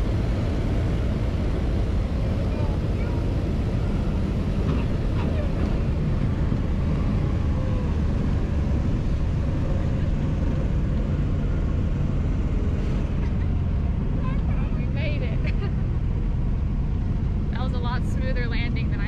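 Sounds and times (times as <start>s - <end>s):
propeller engines droning: 0.0s - 19.0s.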